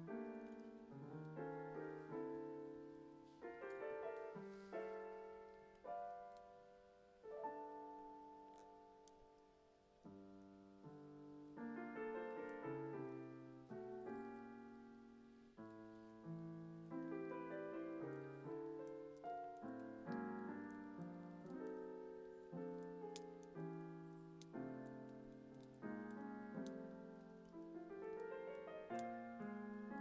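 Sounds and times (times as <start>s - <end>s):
gentle piano chords: 0.0s - 30.0s.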